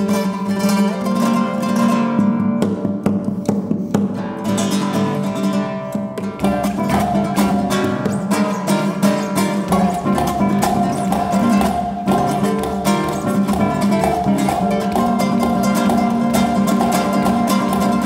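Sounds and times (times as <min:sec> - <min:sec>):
classical guitar playing: 0:00.0 - 0:18.0.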